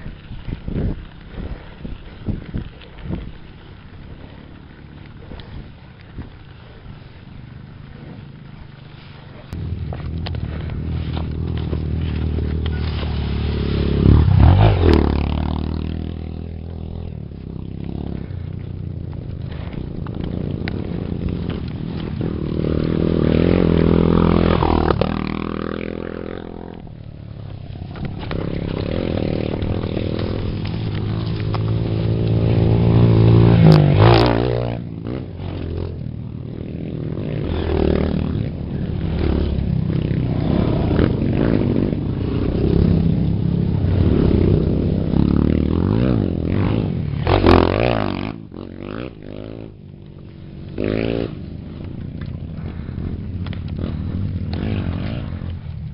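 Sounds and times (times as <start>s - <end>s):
motorcycle engines revving: 0.0s - 55.9s.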